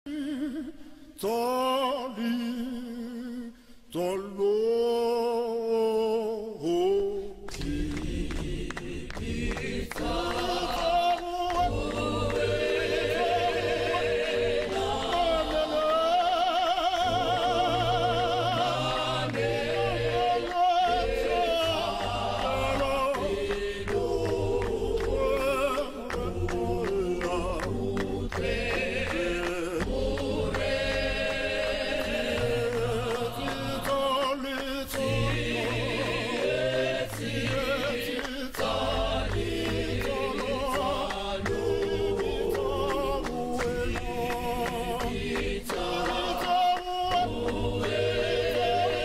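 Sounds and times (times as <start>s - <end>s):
choir singing in harmony: 0.1s - 49.0s
handclapping: 7.4s - 49.0s.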